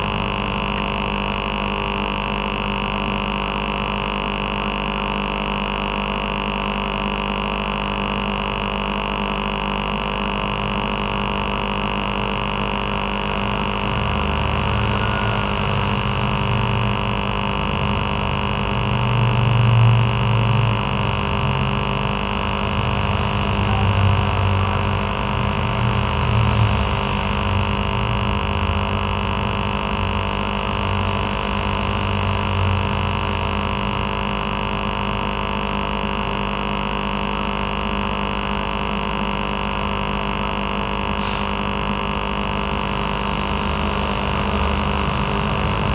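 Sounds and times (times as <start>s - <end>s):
aquarium air pump buzzing: 0.0s - 45.9s.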